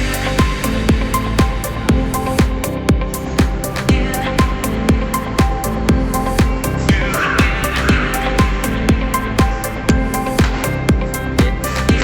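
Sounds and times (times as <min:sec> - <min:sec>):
electronic music: 0:00.0 - 0:12.0
kick drum beat: 0:00.0 - 0:12.0.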